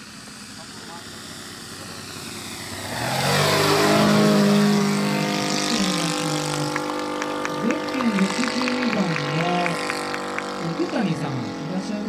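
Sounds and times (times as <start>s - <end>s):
model plane engine running: 0.0s - 12.0s.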